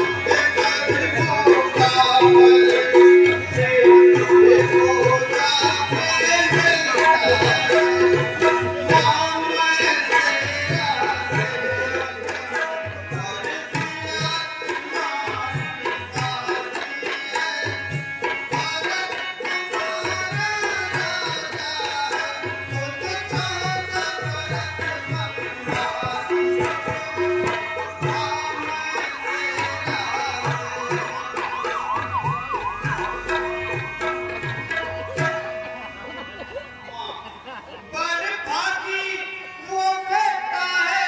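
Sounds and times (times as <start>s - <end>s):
tabla playing: 0.0s - 41.0s.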